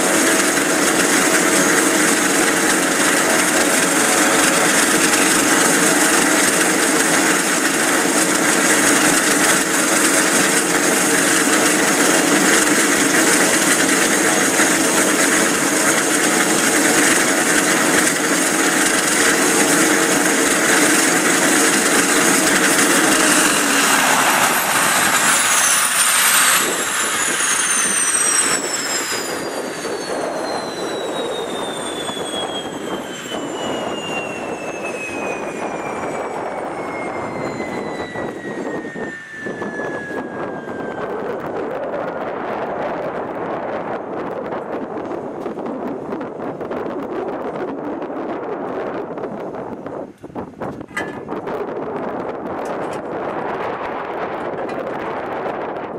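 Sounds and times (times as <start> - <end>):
propeller hum: 0.0 - 55.9
turbine whine: 0.0 - 55.9.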